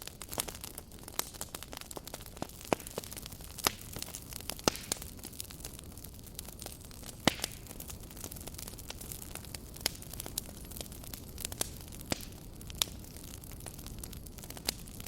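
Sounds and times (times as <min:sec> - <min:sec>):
fire hissing: 0:00.0 - 0:15.0
wood crackling and popping: 0:00.0 - 0:15.0.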